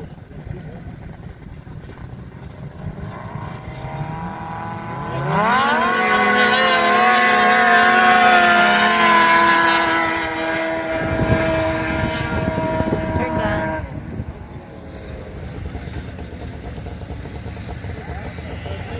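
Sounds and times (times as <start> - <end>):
racing engine revving: 0.0 - 18.9.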